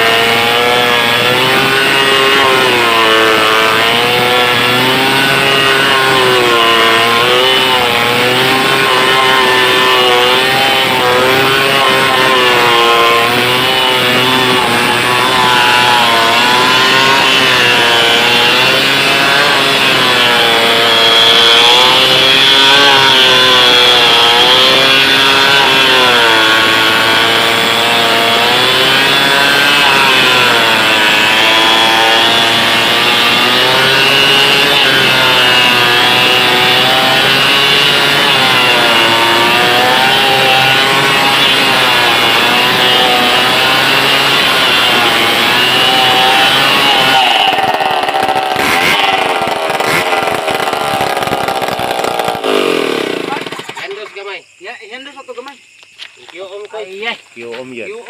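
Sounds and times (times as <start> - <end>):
chainsaw sawing through log: 0.0 - 54.3.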